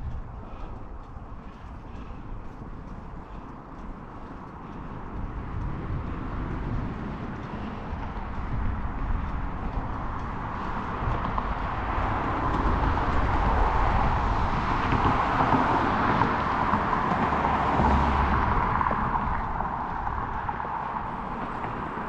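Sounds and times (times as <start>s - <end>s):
car passing: 0.0s - 22.0s
steady low rumble: 0.0s - 22.0s.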